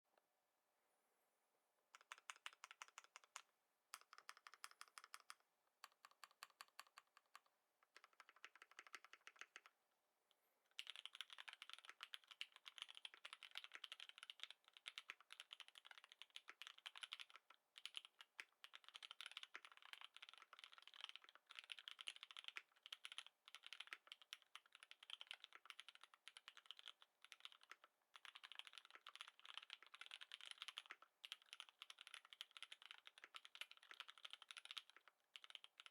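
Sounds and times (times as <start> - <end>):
mechanical keyboard typing: 2.0 - 9.7, 10.8 - 35.9.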